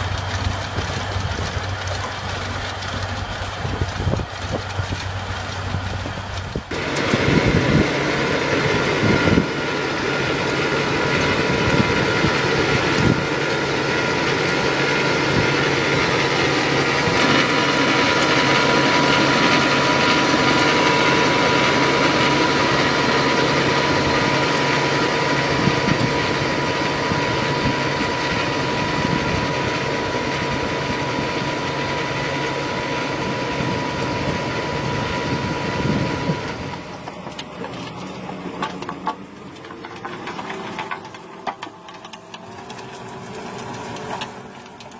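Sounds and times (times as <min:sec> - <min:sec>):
machine engine running: 0:00.0 - 0:44.9.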